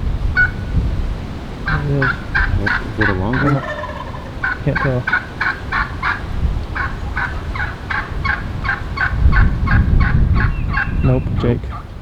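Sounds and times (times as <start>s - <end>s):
wind rumble on microphone: 0.0s - 12.0s
wild turkey yelping: 0.4s - 0.6s, 1.6s - 11.1s.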